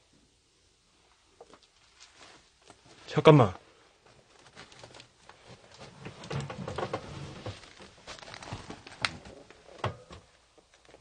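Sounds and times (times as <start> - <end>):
debris rustling and crackling: 1.1 - 3.1, 4.0 - 11.0.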